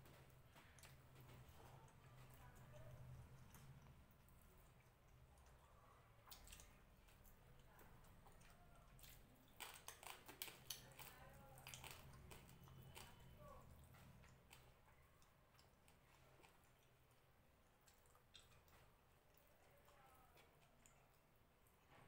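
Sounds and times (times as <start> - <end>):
fingers picking at food: 0.0 - 22.0.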